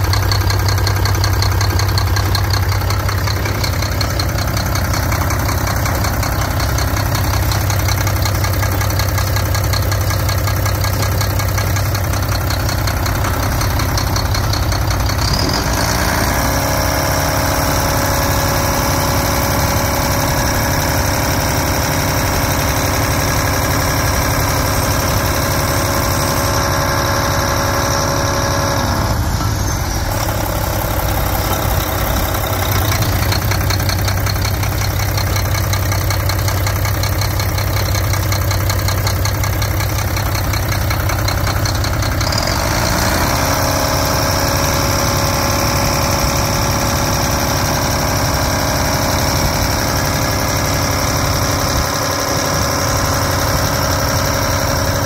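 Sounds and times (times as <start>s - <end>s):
diesel engine idling with clatter: 0.0s - 55.0s.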